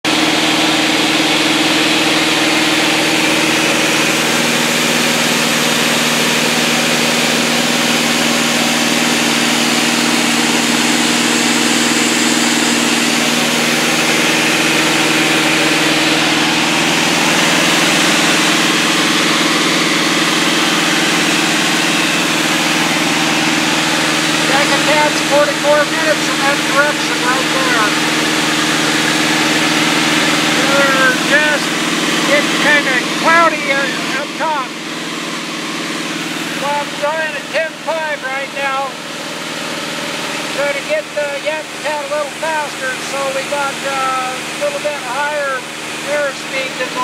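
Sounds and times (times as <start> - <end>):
propeller plane engine droning: 0.0 - 47.0.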